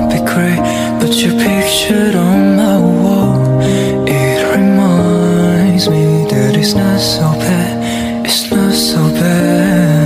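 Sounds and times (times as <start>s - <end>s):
soft slow background music: 0.0s - 10.0s.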